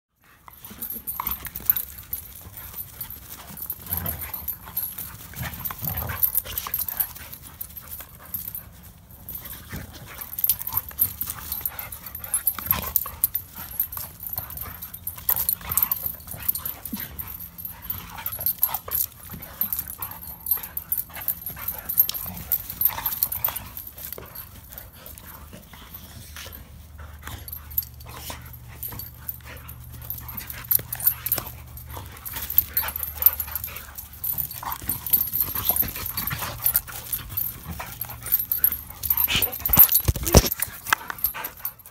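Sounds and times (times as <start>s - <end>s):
dogs play-fighting noises: 0.2s - 41.9s.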